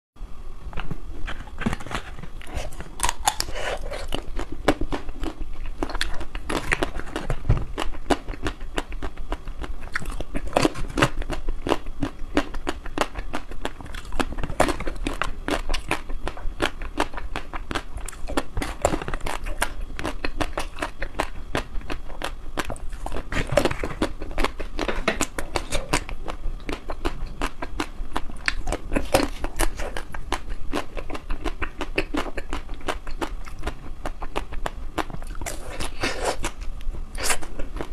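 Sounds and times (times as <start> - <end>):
chocolate being bitten and chewed: 0.8 - 37.9.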